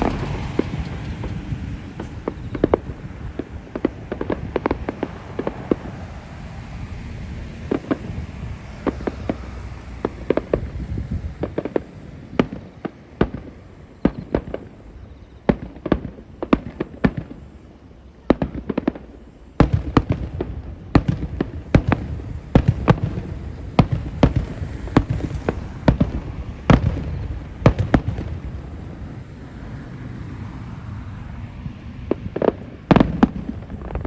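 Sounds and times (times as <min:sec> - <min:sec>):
fireworks bursting with sharp bangs: 0:00.0 - 0:34.0.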